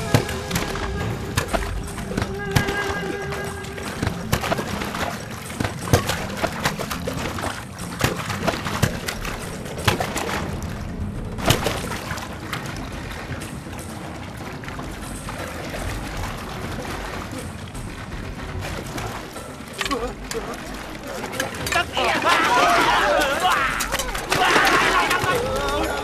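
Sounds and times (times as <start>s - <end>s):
bubbling watery wash: 0.0s - 26.0s
music score: 0.0s - 26.0s.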